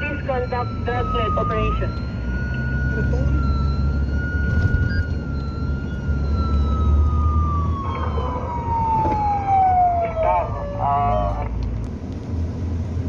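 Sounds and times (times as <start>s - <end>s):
police siren wailing: 0.0s - 11.6s
car engine and road noise: 0.0s - 13.0s.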